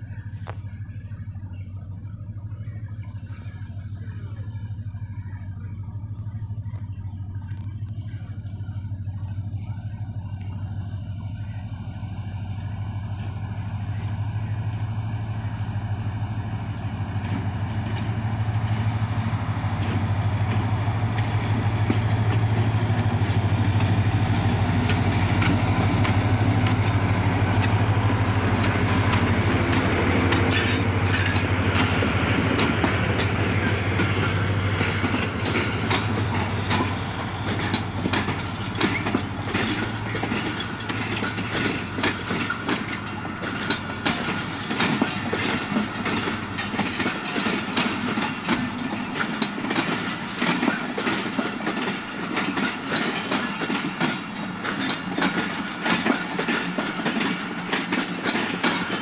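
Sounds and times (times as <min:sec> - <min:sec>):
wheels clicking over rail joints: 0:00.0 - 0:11.6, 0:12.6 - 0:59.0
locomotive engine drone: 0:00.0 - 0:59.0.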